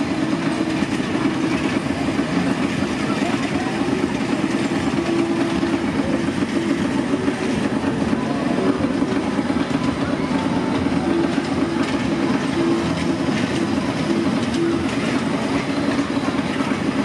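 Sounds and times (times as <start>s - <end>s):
fairground rides mechanical din: 0.0s - 17.0s
ride wheels rattling on track: 0.0s - 17.0s.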